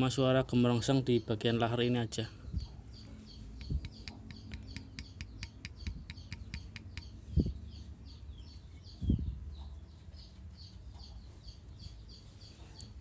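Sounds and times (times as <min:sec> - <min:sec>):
small bird chirping: 0:00.8 - 0:13.0.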